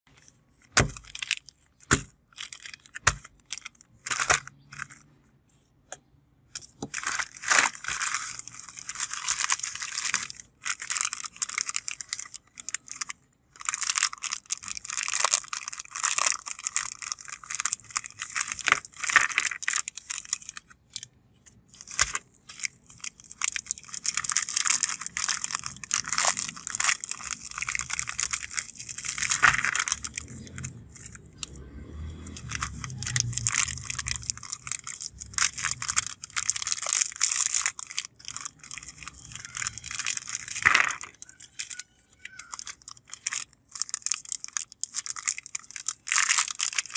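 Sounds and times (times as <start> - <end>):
plastic wrappers crinkling: 0.1 - 5.1, 6.6 - 46.9.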